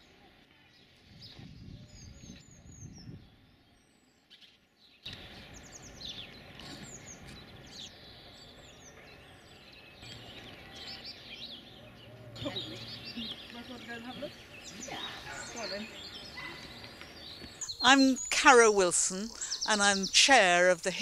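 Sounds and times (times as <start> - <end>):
songbirds chirping and singing: 0.7 - 21.0.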